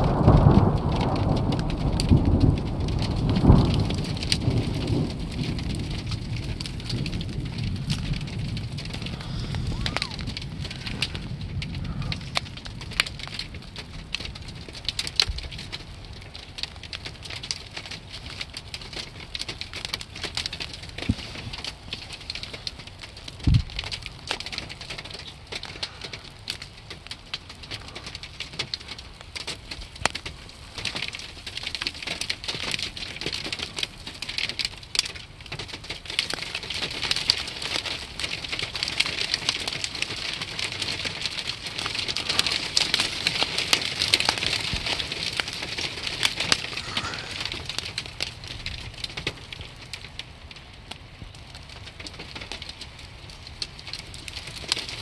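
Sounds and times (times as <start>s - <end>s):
snow pellets pattering: 0.0s - 55.0s.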